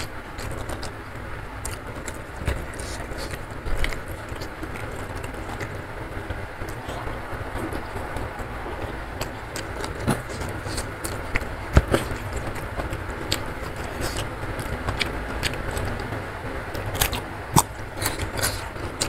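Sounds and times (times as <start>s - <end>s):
person chewing: 0.0s - 5.9s, 6.6s - 19.0s.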